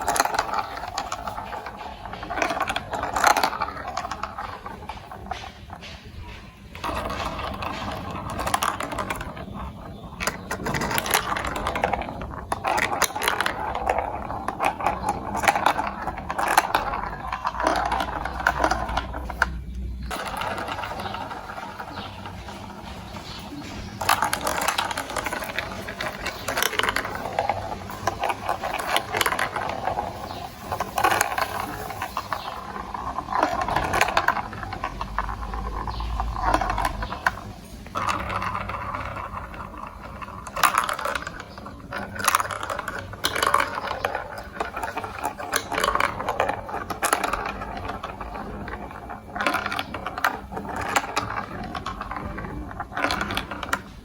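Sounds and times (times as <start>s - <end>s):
marbles clicking and rattling: 0.0s - 54.0s.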